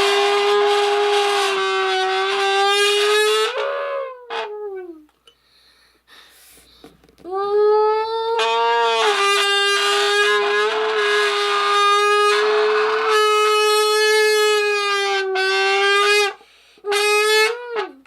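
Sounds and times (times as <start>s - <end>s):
buzzy note blown into can: 0.0s - 5.0s, 8.0s - 18.0s.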